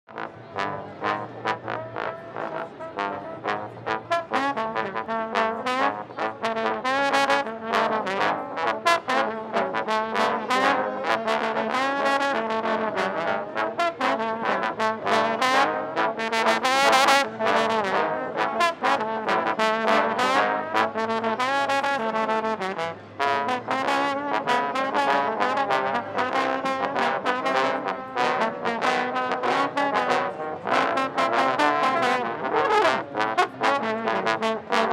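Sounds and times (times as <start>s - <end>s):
trombone playing sliding notes: 0.1s - 34.9s.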